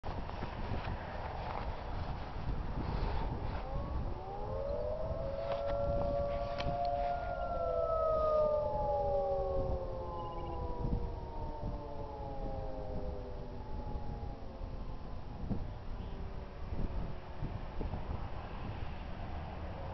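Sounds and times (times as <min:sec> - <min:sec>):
distant warning sirens: 0:01.3 - 0:19.9.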